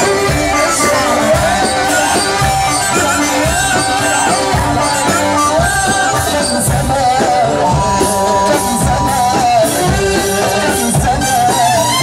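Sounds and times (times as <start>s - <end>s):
man singing into microphone: 0.0s - 12.0s
party music with trills: 0.0s - 12.0s
steady drum beat: 0.0s - 12.0s.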